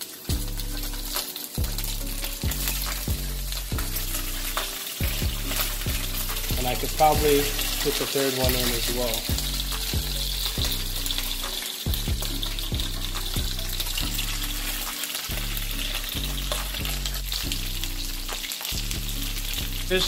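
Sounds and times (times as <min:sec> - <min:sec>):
background music beat: 0:00.0 - 0:20.0
fish sizzling in hot oil: 0:00.0 - 0:20.0.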